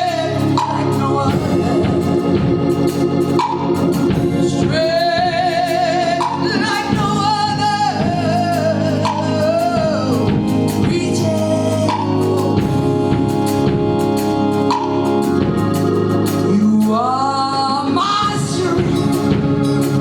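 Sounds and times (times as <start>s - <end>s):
person singing with vibrato: 0.0s - 15.7s, 16.3s - 20.0s
organ and band accompaniment: 0.0s - 20.0s.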